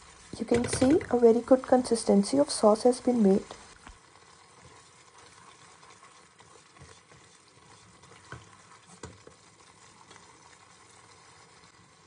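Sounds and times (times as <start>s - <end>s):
sauce sizzling and bubbling: 0.0s - 12.0s.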